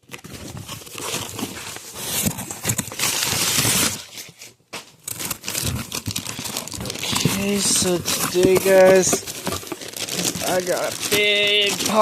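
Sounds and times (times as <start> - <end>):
cardboard parcel rustling: 0.0 - 12.0.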